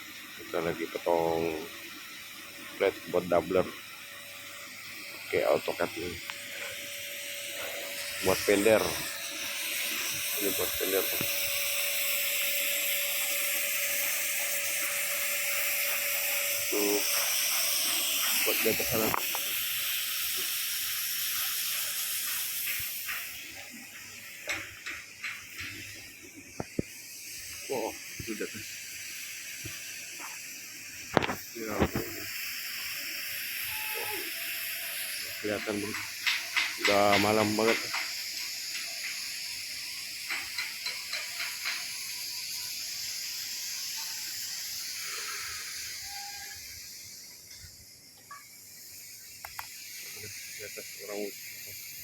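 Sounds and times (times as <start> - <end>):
cutting torch hissing: 0.0 - 52.0
night insects chorus: 0.0 - 52.0.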